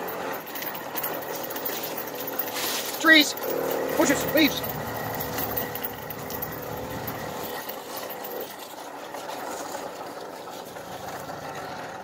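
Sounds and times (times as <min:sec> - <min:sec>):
moped engine running: 0:00.0 - 0:12.0.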